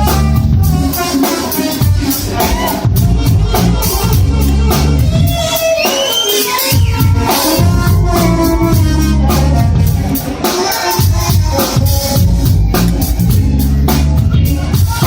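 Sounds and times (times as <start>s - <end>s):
bass line: 0.0s - 15.0s
drum kit: 0.0s - 15.0s
guitar: 0.0s - 15.0s.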